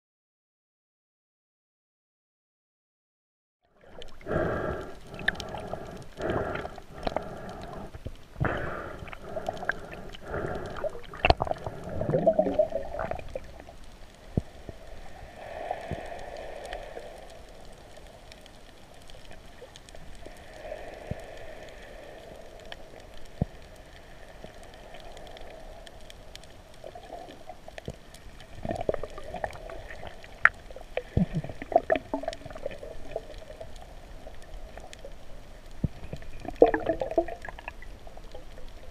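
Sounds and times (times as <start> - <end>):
underwater gurgling: 3.8 - 38.9.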